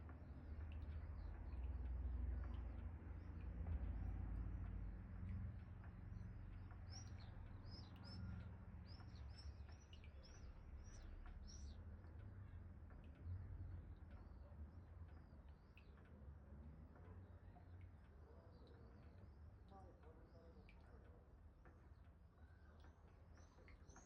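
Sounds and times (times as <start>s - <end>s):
faint low wind rumble: 0.0s - 24.0s
small birds chirping: 0.0s - 24.0s.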